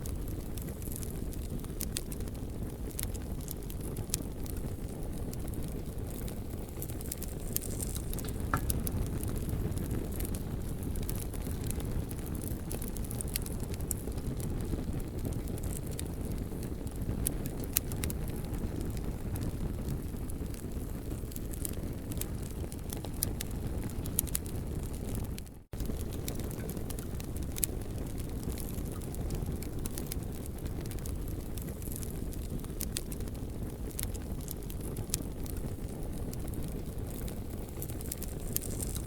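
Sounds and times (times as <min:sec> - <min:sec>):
campfire crackling and popping: 0:00.0 - 0:39.0
low rumble of fire: 0:00.0 - 0:39.0.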